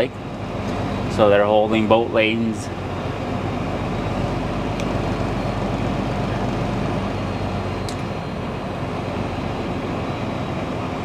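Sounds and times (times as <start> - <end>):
diesel truck engine drone: 0.0 - 11.0
road noise: 0.0 - 11.0.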